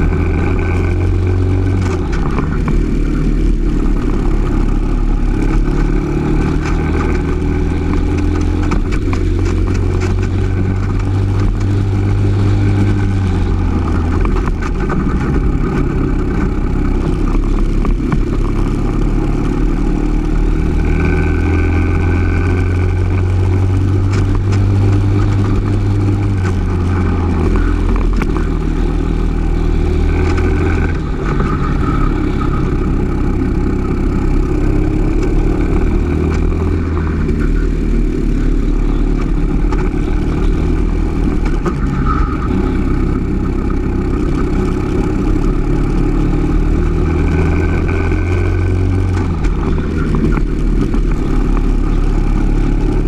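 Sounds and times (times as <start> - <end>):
kart engine racing: 0.0 - 53.0.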